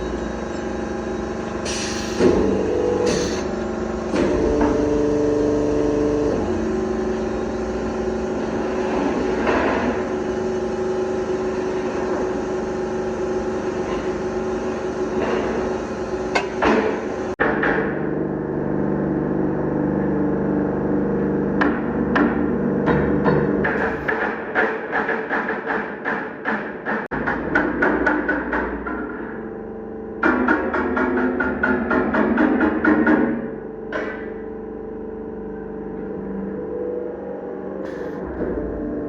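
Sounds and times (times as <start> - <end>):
machine hum: 0.0 - 25.5, 26.8 - 39.0.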